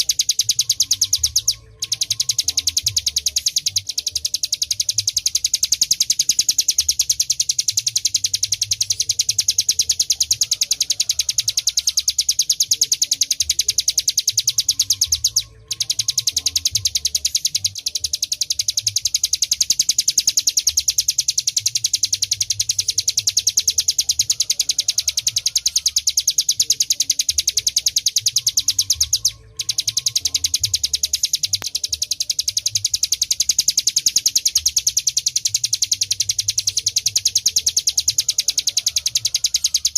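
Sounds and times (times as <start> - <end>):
bird high-pitched trill: 0.0 - 39.9.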